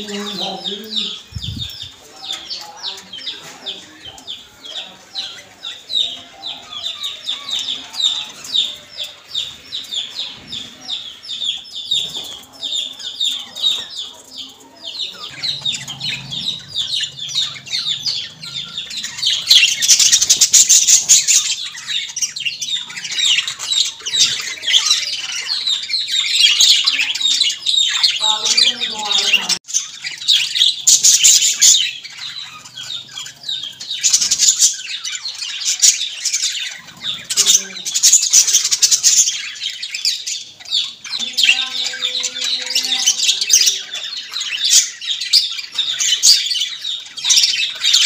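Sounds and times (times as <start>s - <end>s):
budgerigars chattering: 0.0s - 48.0s.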